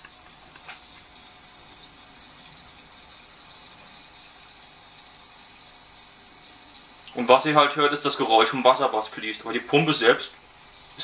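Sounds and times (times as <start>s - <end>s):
water flowing over ceramic bowl: 0.0s - 11.0s.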